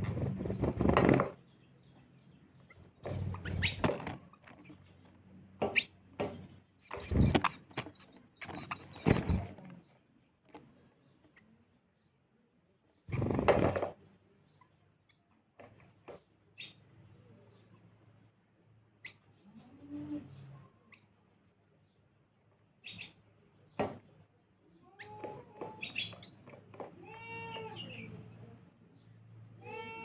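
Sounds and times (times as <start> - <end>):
sparrows chirping: 0.0 - 30.0.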